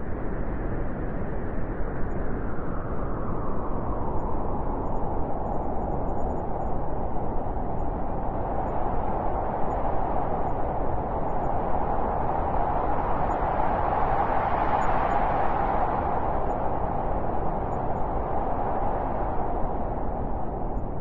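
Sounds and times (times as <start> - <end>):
blizzard wind howling: 0.0 - 21.0.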